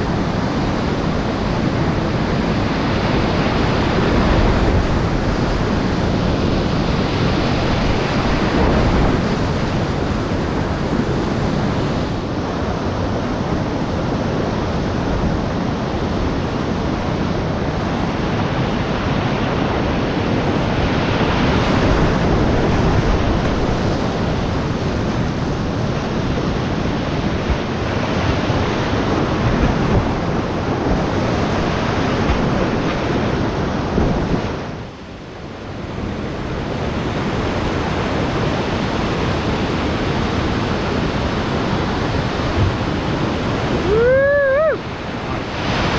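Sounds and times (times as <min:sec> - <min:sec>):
whitewater rapids rushing: 0:00.0 - 0:45.9.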